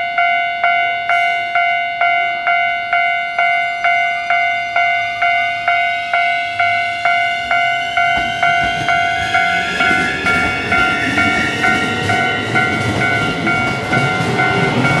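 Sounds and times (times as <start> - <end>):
electric train inverter whine: 0.0 - 15.0
railway crossing warning bell: 0.0 - 15.0
wheels rumbling on rail: 1.1 - 15.0.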